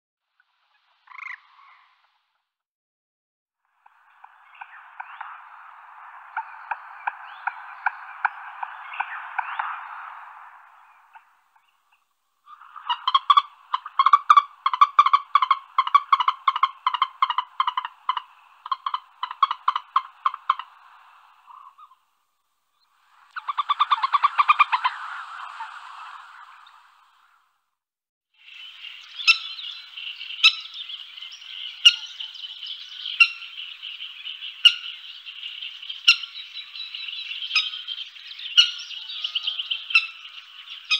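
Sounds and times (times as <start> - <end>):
frogs croaking: 1.0 - 2.1, 3.6 - 27.4, 28.4 - 40.9.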